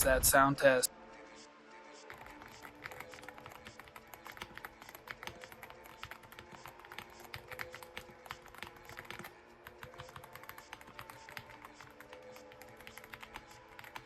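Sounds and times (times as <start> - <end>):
mechanical keyboard typing: 2.1 - 14.0.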